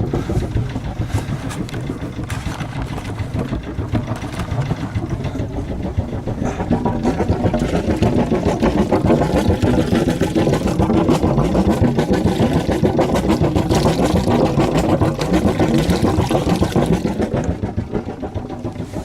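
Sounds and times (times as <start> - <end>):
boat engine idling: 0.0 - 19.0
exhaust water splashing: 0.0 - 19.0.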